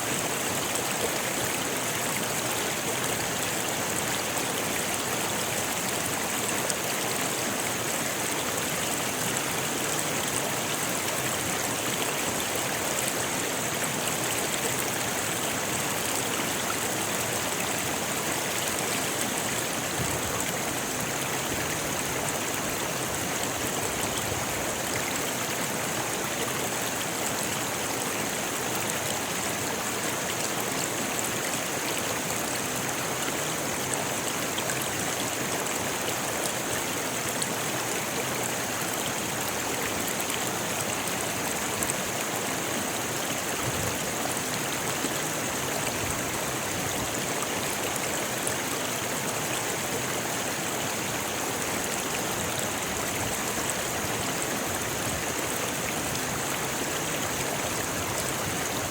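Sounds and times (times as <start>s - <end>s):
river rushing over stones: 0.0s - 58.9s.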